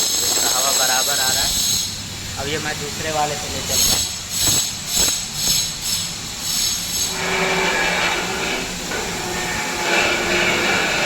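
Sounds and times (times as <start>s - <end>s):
air duct blowing: 1.4s - 11.0s.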